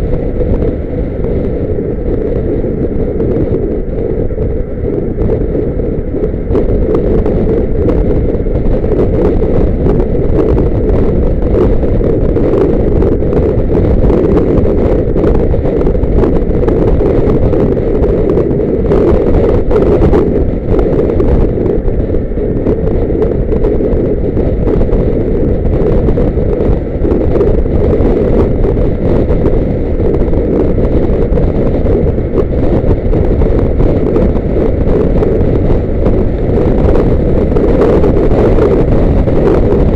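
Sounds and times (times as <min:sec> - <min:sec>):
car driving rumble: 0:00.0 - 0:39.9
road noise: 0:00.0 - 0:39.9
wind buffeting microphone: 0:00.0 - 0:39.9.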